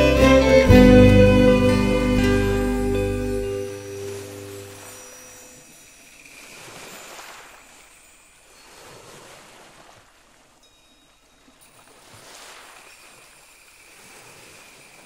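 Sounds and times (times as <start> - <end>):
gentle waves washing on shore: 0.0 - 15.0.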